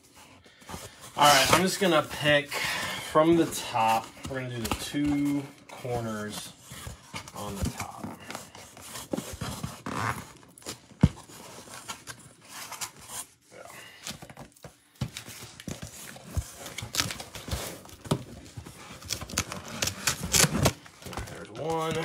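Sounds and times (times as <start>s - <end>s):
cardboard tearing and rustling: 0.2s - 22.0s.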